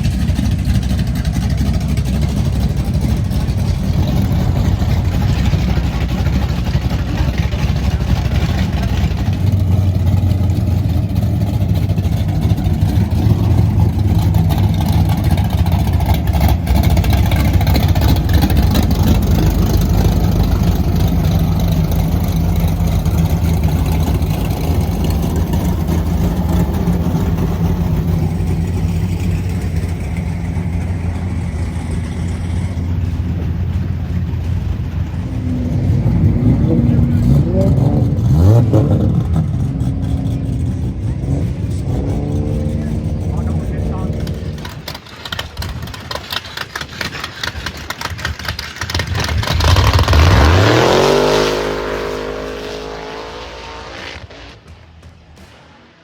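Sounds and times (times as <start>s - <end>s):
race car engine at low revs: 0.0s - 56.0s.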